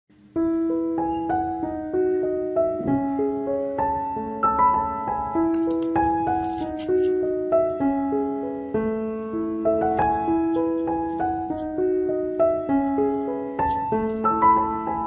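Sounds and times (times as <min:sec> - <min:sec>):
slow piano melody: 0:00.1 - 0:15.0.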